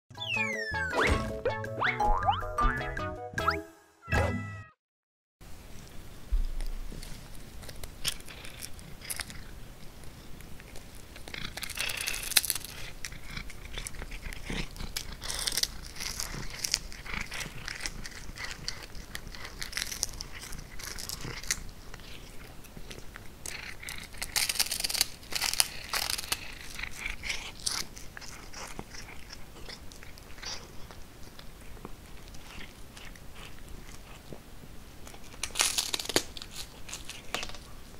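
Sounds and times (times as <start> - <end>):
cat chewing fish: 5.7 - 37.9.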